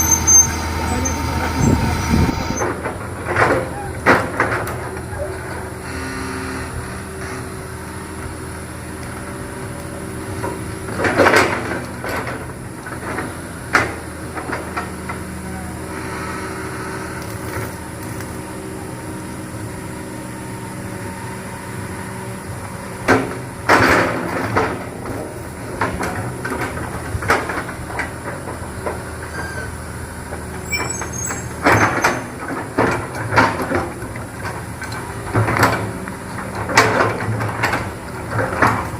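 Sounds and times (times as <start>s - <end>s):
diesel engine running: 0.0s - 38.9s
excavator clanking and scraping: 0.0s - 38.9s.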